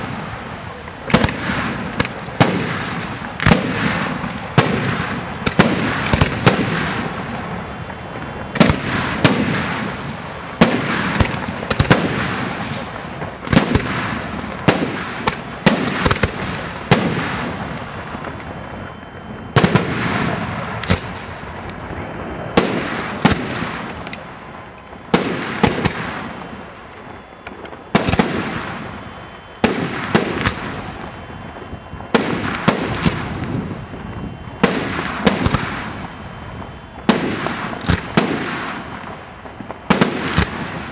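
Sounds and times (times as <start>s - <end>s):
firework shells bursting: 0.0s - 40.9s.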